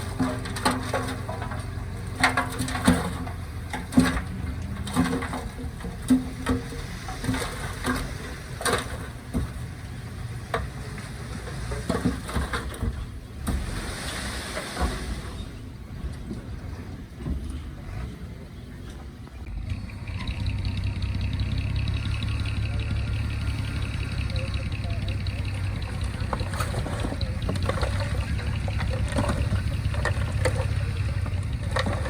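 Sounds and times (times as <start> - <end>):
knocks and clanks: 0.0 - 14.0, 18.8 - 32.0
heavy machinery diesel engines: 0.0 - 32.0.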